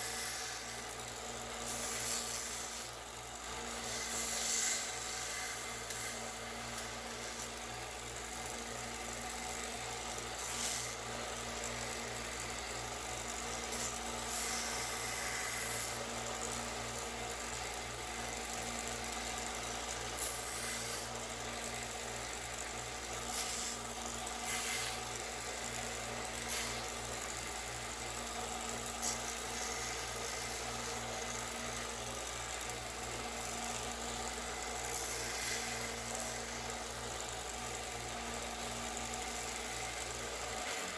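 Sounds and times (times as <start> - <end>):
belt sander motor hum: 0.0 - 40.9.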